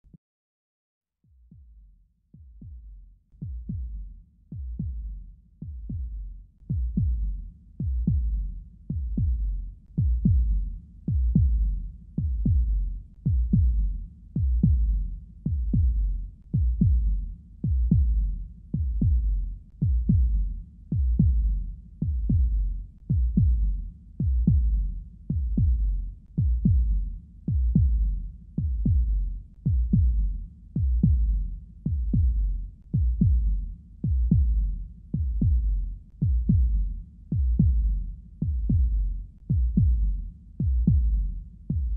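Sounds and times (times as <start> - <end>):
deep heartbeat-like thuds: 2.4 - 41.9.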